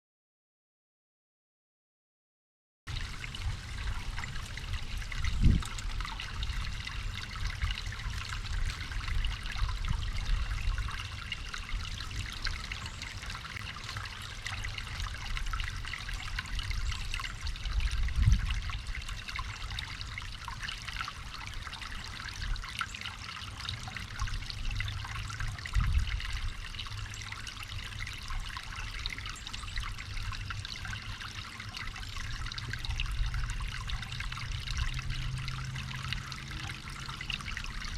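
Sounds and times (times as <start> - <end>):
water trickling: 2.9 - 37.9.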